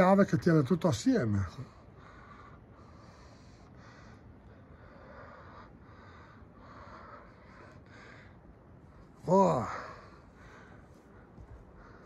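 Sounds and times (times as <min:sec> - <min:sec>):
person breathing heavily: 0:01.7 - 0:12.0.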